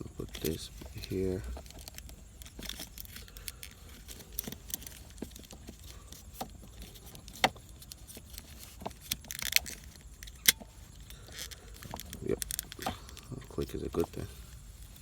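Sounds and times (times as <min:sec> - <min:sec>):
plastic trim parts clicking: 0:01.6 - 0:14.1.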